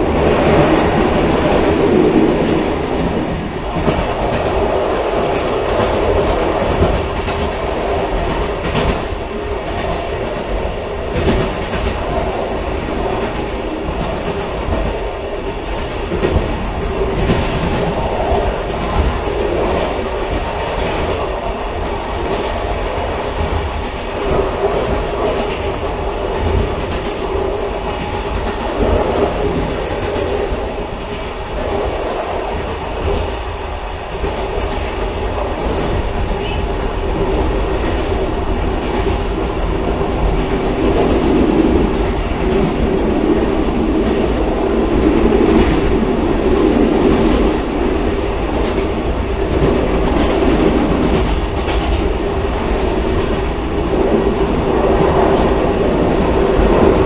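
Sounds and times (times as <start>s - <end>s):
railcar rumbling on track: 0.0s - 57.0s.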